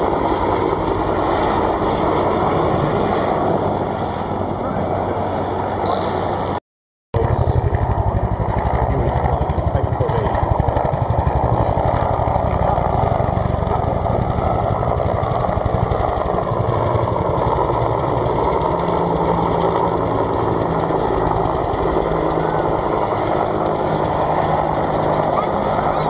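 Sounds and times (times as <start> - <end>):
helicopter rotor chop: 0.0 - 6.6, 7.2 - 26.0.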